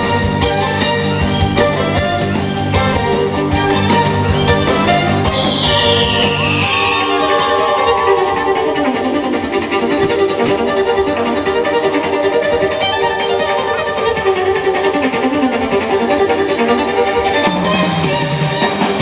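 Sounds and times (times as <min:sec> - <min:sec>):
musical accompaniment: 0:00.0 - 0:19.0
violin melody: 0:00.0 - 0:19.0.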